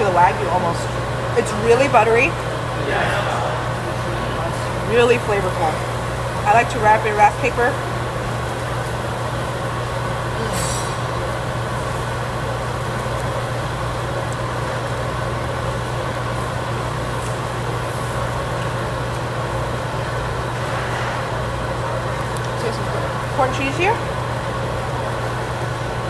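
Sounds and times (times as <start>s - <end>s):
ventilation fan rushing: 0.0s - 26.0s.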